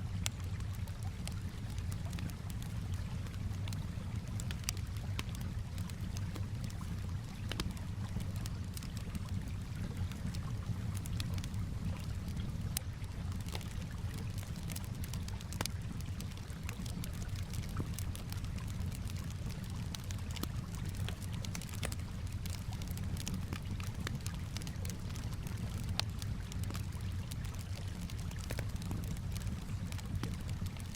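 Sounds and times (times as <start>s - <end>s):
calm water washing: 0.0s - 30.9s
campfire crackling and popping: 0.0s - 30.9s.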